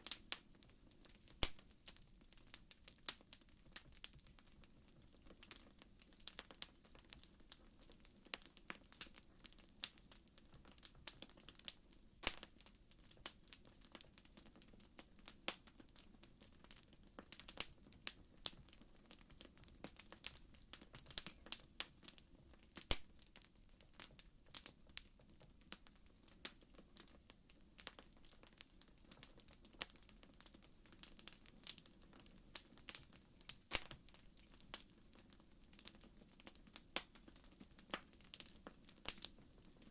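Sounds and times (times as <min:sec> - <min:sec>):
faint low hiss: 0:00.0 - 0:39.9
wood fire crackling: 0:00.0 - 0:39.9.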